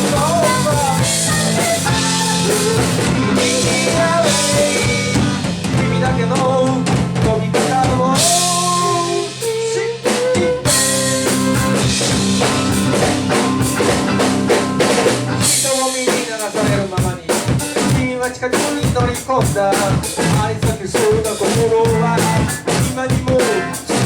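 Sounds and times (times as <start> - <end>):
drum kit hits: 0.0 - 24.0
live rock band playing: 0.0 - 24.0.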